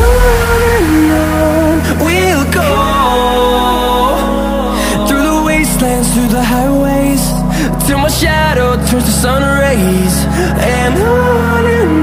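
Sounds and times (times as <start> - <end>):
background pop music: 0.0 - 12.0.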